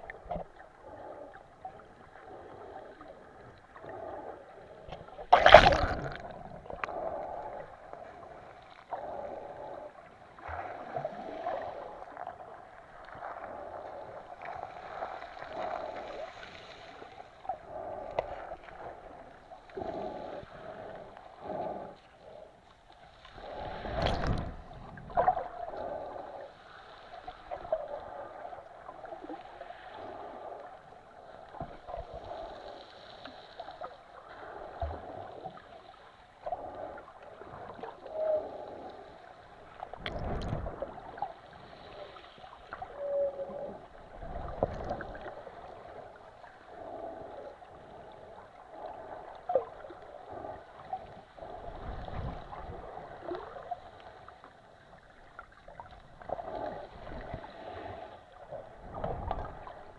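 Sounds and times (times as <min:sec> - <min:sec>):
water lapping and gurgling: 0:00.0 - 0:59.9.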